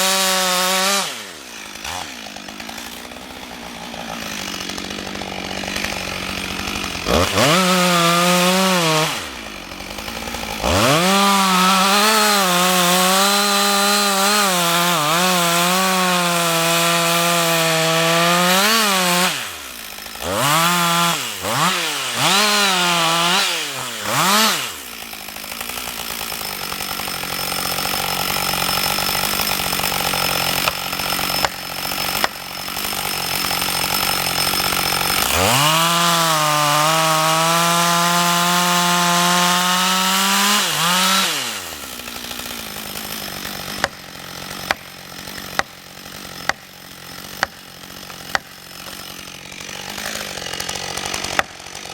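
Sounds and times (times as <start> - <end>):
chainsaw revving and cutting wood: 0.0 - 51.9.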